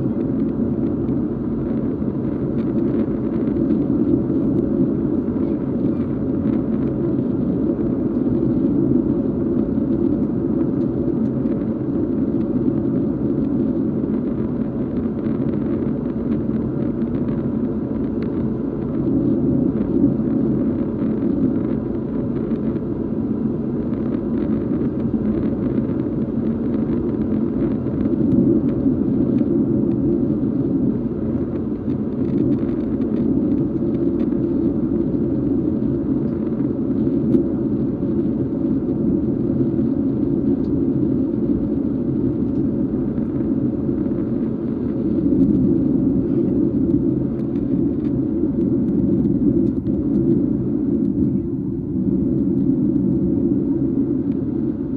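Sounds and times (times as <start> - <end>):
airplane cabin engine drone: 0.0 - 54.9.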